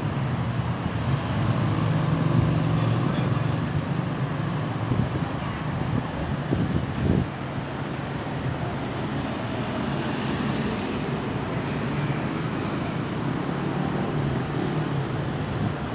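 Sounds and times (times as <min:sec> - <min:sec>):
road traffic passing: 0:00.0 - 0:15.9.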